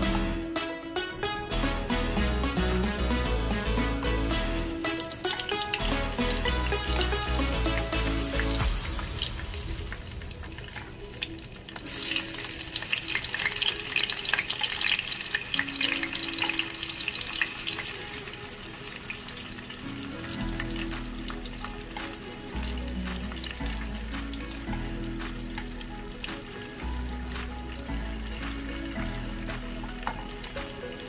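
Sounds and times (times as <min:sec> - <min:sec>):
meat sizzling in hot oil: 0:03.0 - 0:31.0.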